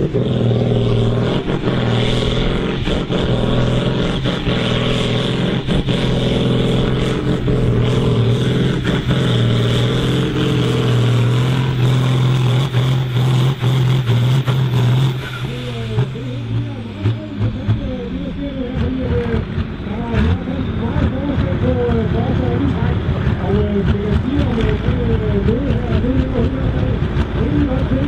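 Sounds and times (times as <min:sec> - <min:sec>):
tractor diesel engine under load: 0:00.0 - 0:28.0.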